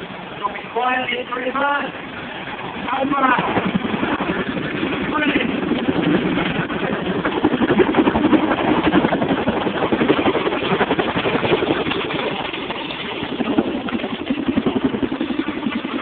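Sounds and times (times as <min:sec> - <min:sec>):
helicopter rotors beating: 0:00.0 - 0:16.0
turbine noise: 0:00.0 - 0:16.0.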